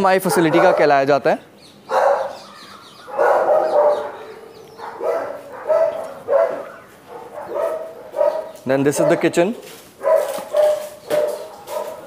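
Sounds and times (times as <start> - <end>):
dogs barking: 0.0 - 1.2, 1.9 - 12.0.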